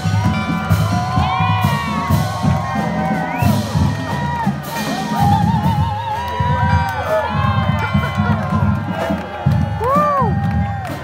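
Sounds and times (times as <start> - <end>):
crowd cheering and whooping: 0.0 - 11.0.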